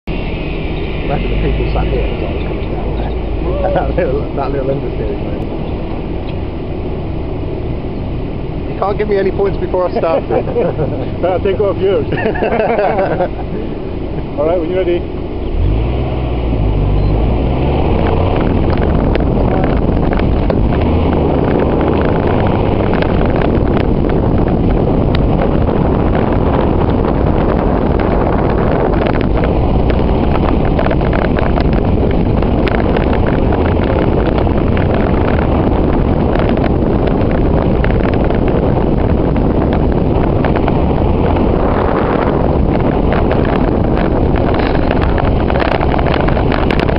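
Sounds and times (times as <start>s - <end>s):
car engine working hard: 0.0s - 46.9s
wind on microphone: 0.0s - 46.9s.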